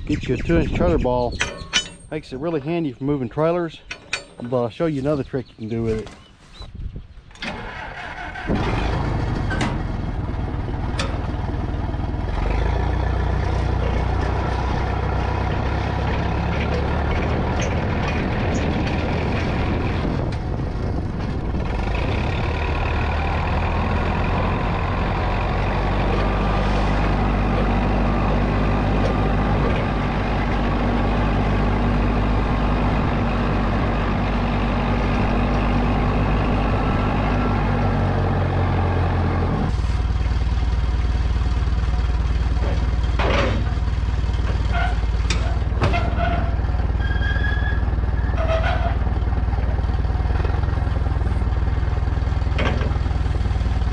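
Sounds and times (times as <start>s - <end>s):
forklift engine running: 7.3s - 53.9s.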